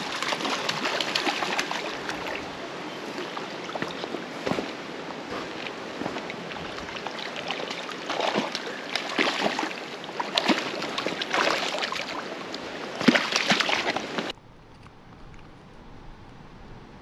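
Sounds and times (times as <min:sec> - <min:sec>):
fish splashing: 0:00.0 - 0:14.3
running water: 0:00.0 - 0:14.3.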